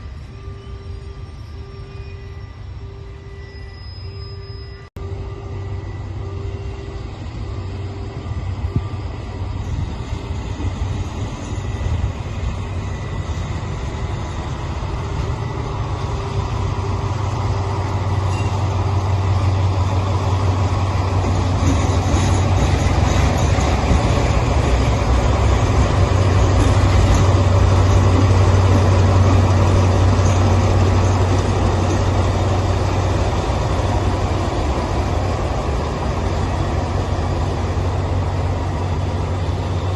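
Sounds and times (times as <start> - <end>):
locomotive engine droning: 0.0 - 39.9.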